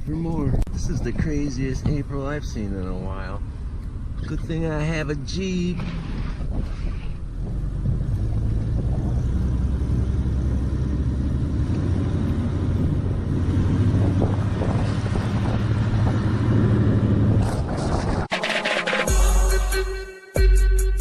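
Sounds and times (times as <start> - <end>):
car engine running: 0.0 - 18.8.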